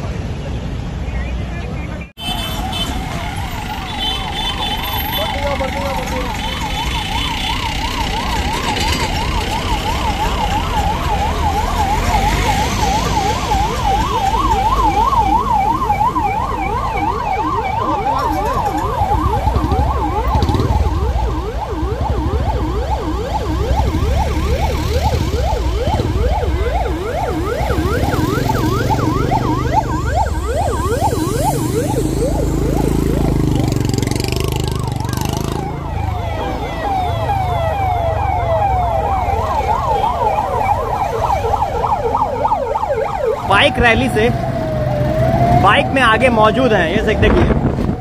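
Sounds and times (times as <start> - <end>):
traffic rumble: 0.0 - 48.0
police siren fast warble: 2.2 - 48.0
siren rising sweeps: 2.4 - 48.0.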